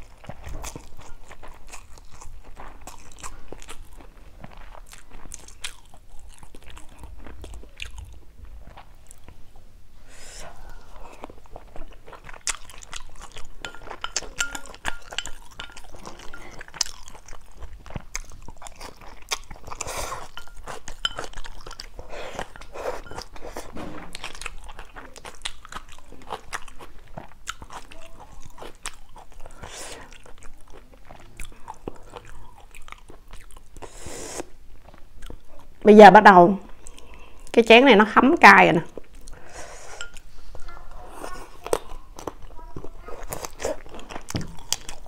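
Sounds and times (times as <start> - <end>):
person chewing noodles: 0.0 - 35.8, 36.6 - 37.5, 38.9 - 45.0.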